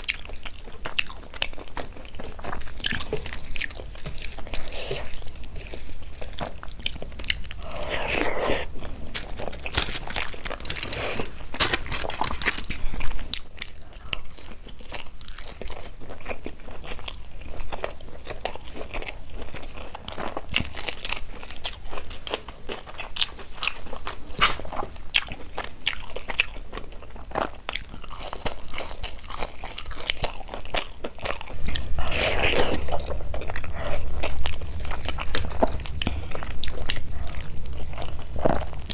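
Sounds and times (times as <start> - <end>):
wet chewing with mouth clicks: 0.0 - 38.9.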